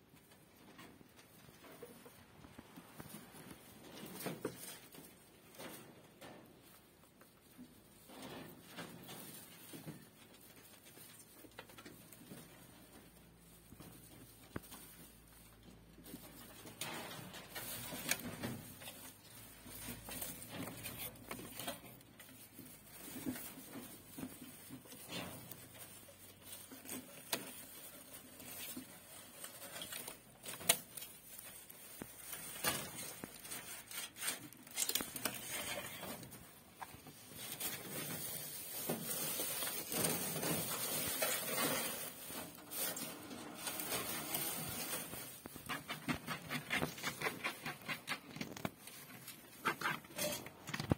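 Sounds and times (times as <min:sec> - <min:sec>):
straw rustling and crackling: 0:00.1 - 0:50.9
hand rummaging through straw: 0:06.6 - 0:50.9.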